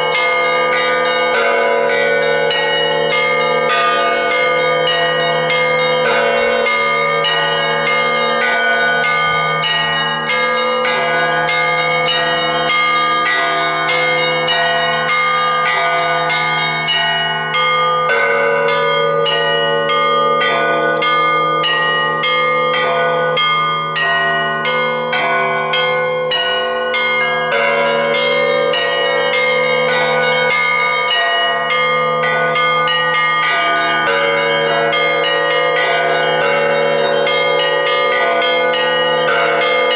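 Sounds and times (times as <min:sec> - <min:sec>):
church bells ringing: 0:00.0 - 0:39.9
deep bell tone: 0:00.0 - 0:39.9.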